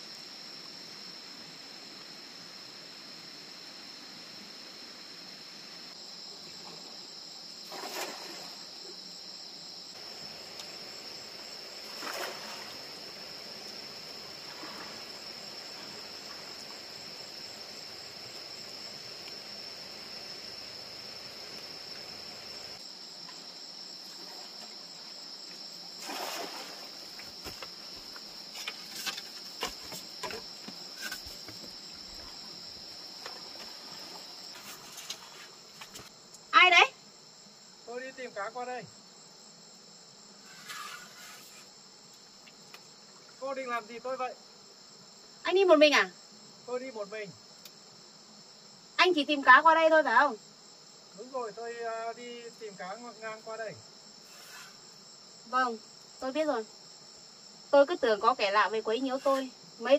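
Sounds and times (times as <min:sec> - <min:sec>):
crickets chirring: 0:00.0 - 0:59.9.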